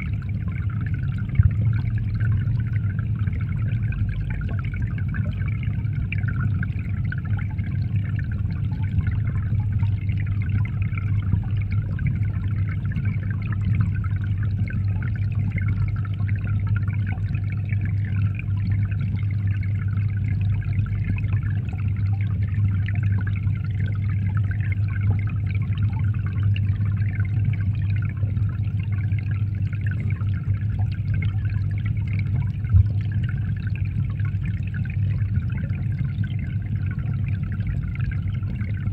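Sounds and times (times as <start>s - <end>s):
low hum: 0.0s - 38.9s
water rushing and bubbling underwater: 0.0s - 38.9s.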